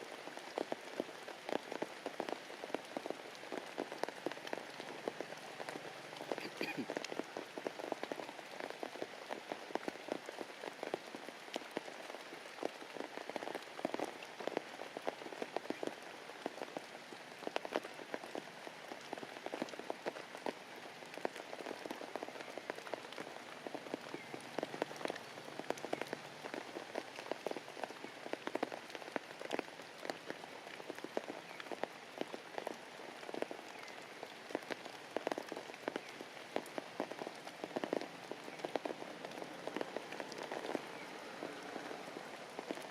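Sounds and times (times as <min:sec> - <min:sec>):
heavy rain patter: 0:00.0 - 0:42.9.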